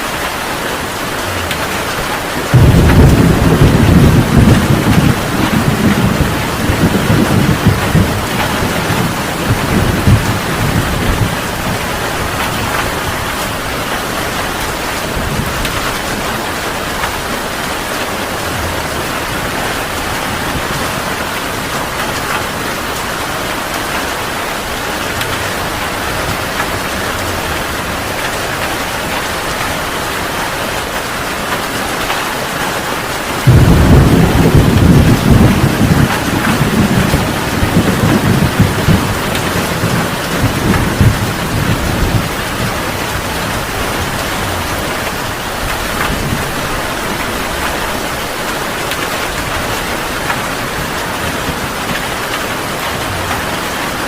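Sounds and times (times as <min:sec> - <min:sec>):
heavy rain pouring: 0:00.0 - 0:54.0
thunder rumbling: 0:00.9 - 0:30.2, 0:33.2 - 0:54.0.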